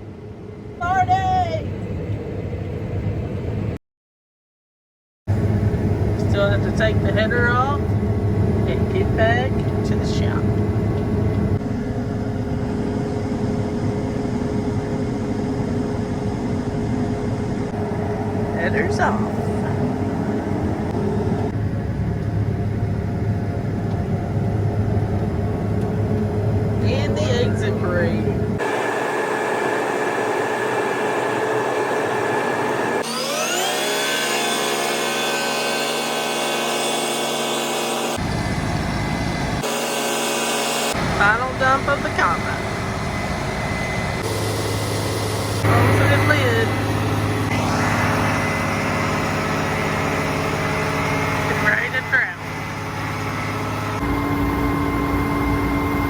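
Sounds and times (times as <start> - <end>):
combine harvester engine rumble: 5.3 - 34.5, 38.1 - 39.7, 40.8 - 56.0.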